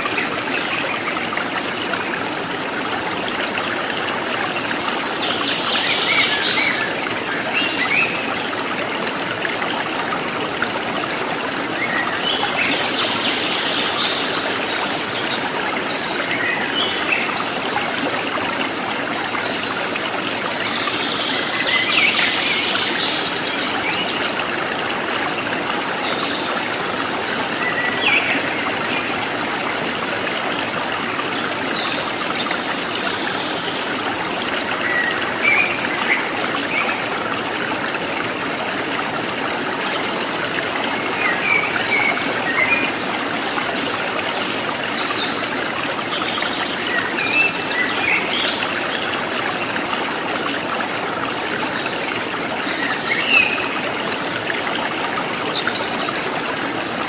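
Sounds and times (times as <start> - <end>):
stream trickling and gurgling: 0.0 - 57.0.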